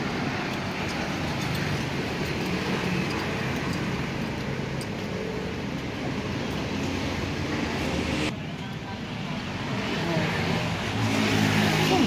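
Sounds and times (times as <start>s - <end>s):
road traffic noise: 0.0s - 12.0s
vehicle engine humming nearby: 0.0s - 12.0s.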